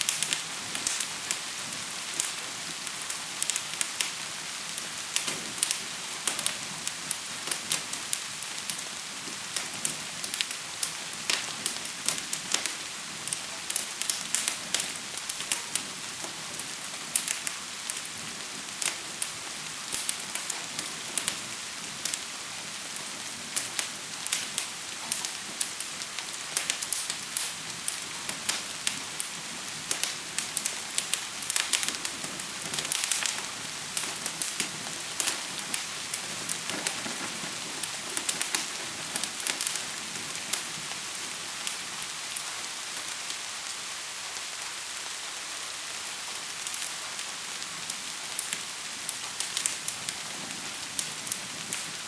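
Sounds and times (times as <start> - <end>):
fire crackling and popping: 0.0 - 52.0
gentle rain hissing: 0.0 - 52.0.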